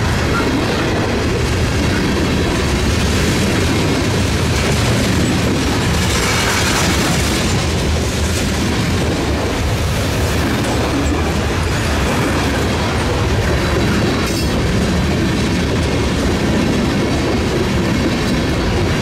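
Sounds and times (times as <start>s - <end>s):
freight train rumbling past: 0.0s - 19.0s
steel wheels clattering on rails: 0.0s - 19.0s.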